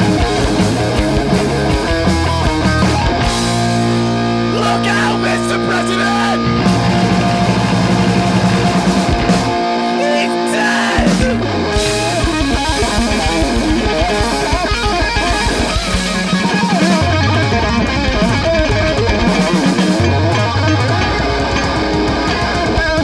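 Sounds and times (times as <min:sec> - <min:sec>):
pulsing bass line: 0:00.0 - 0:09.6, 0:11.0 - 0:23.0
drums: 0:00.0 - 0:23.0
electric guitar: 0:00.0 - 0:23.0.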